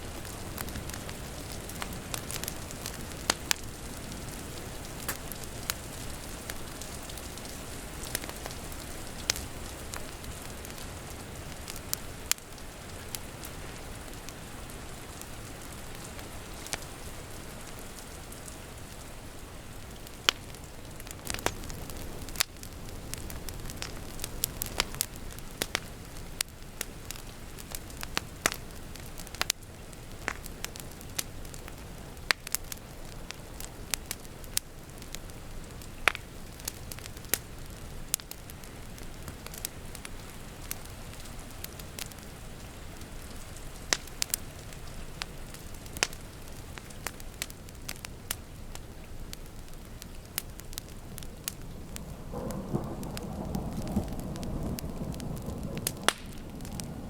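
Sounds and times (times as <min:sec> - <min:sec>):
rain hiss: 0:00.0 - 0:57.0
wood fire crackling and popping: 0:00.0 - 0:57.0.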